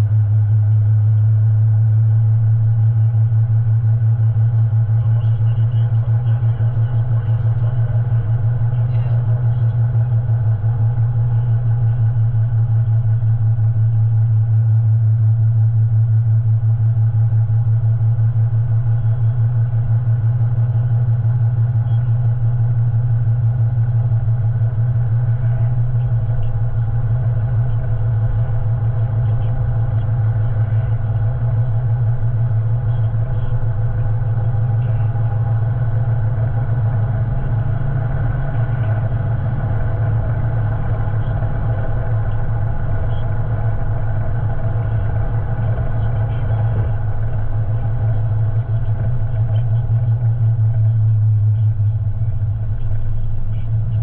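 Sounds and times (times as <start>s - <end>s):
road noise: 0.0s - 54.0s
vehicle engine drone: 0.0s - 54.0s.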